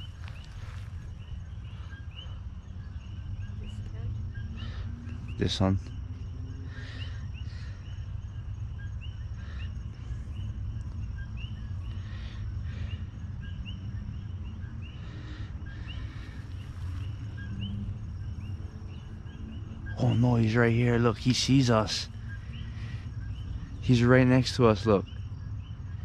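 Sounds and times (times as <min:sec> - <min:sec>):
constant low rumble: 0:00.0 - 0:26.0
steady high hum: 0:00.0 - 0:26.0.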